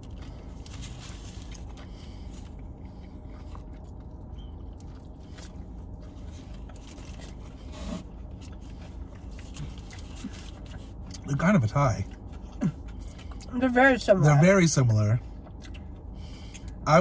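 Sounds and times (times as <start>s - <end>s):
person chewing: 0.0s - 13.5s, 14.8s - 16.8s
low steady hum: 0.0s - 17.0s.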